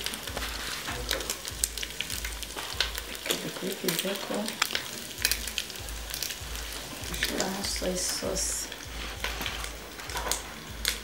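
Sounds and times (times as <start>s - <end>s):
crackles and pops of frying: 0.0s - 11.0s
meat and onions sizzling: 0.0s - 11.0s.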